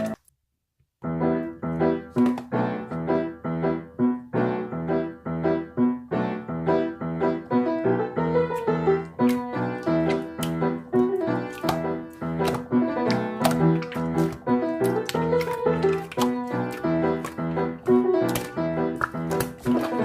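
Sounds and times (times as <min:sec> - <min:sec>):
piano notes: 0:00.0 - 0:00.2, 0:01.0 - 0:20.0.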